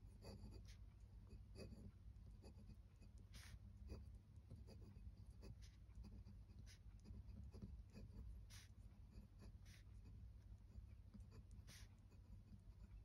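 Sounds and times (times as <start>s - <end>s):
low steady hum: 0.0s - 13.0s
pen nib scratching on paper: 0.0s - 13.0s.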